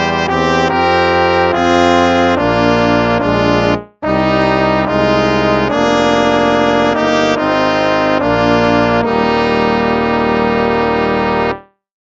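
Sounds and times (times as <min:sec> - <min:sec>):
brass instruments playing hymn: 0:00.0 - 0:11.6.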